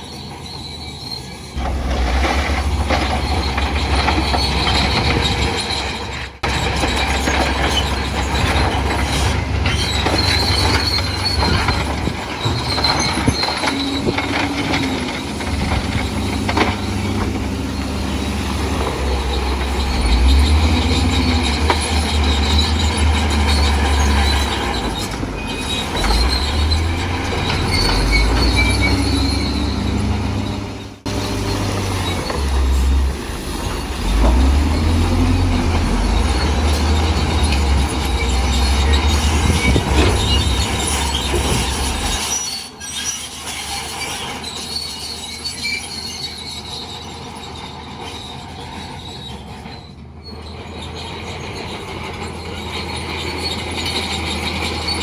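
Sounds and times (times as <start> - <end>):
bulldozer diesel engine rumble: 0.0 - 55.0
metallic squealing of crawler tracks: 0.0 - 55.0.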